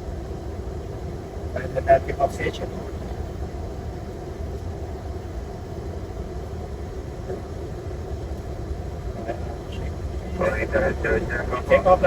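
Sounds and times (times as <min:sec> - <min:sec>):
cockpit engine and air-system rumble: 0:00.0 - 0:12.0.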